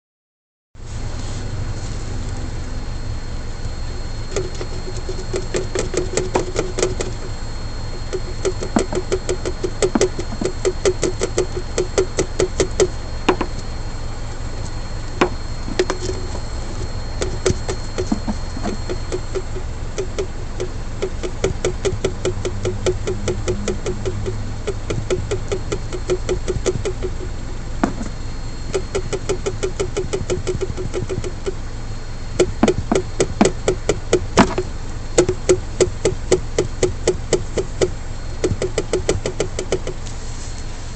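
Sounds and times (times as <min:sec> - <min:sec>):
steady low rumble: 0:00.8 - 0:40.9
shock absorbers knocking: 0:04.3 - 0:13.6, 0:15.2 - 0:31.6, 0:32.4 - 0:40.0.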